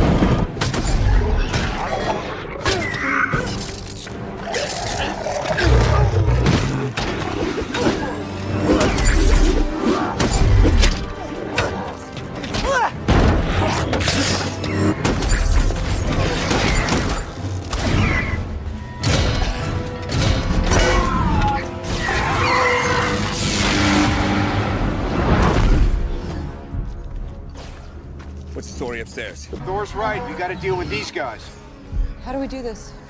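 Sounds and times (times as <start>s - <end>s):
orchestral score: 0.0s - 33.0s.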